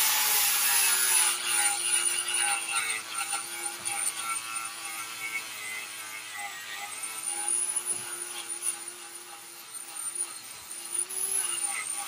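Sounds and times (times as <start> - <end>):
angle grinder grinding metal: 0.0 - 12.0.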